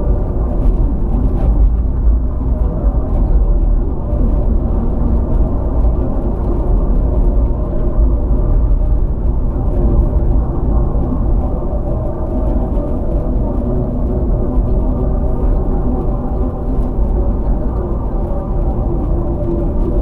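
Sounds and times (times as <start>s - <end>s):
low road rumble: 0.0s - 20.0s.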